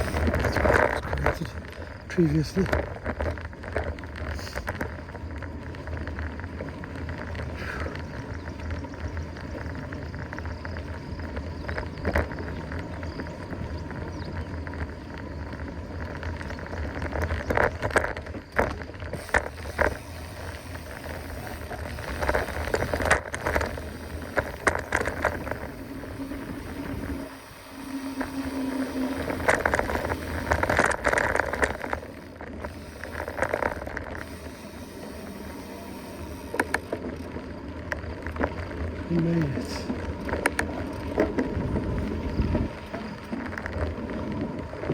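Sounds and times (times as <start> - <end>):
bike rattling over bumps: 0.0 - 44.9
bike tyres rolling on dirt: 0.0 - 44.9.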